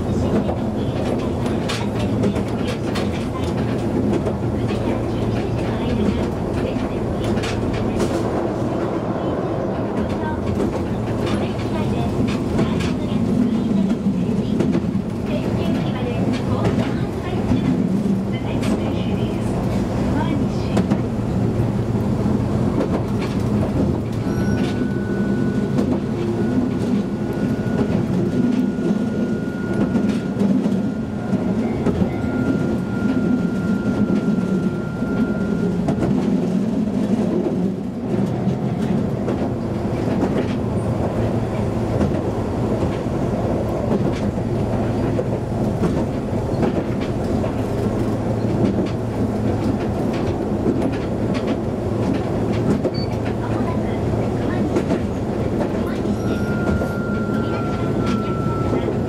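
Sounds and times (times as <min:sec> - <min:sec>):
tram running rumble: 0:00.0 - 0:59.0.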